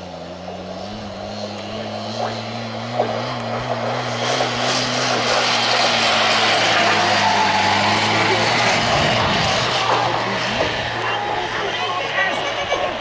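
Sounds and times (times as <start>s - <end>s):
engine drone: 0.0s - 13.0s
rushing noise: 0.7s - 13.0s.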